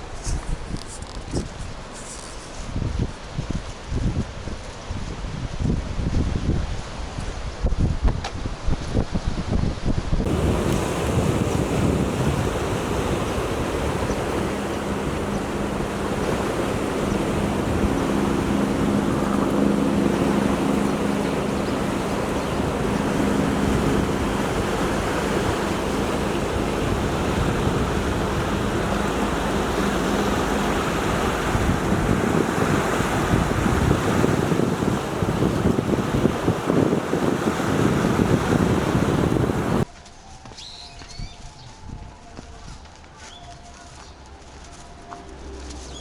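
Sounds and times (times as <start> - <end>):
wind on microphone: 2.5 - 39.8.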